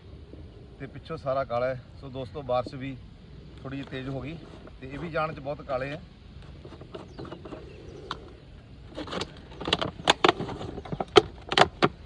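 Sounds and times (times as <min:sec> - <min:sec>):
low steady background: 0:00.0 - 0:12.0.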